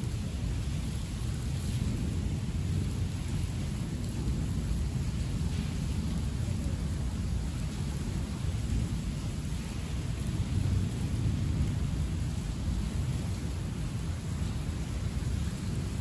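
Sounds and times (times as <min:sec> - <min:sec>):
heavy rain falling: 0:00.0 - 0:16.0
low rumble of thunder: 0:00.0 - 0:16.0.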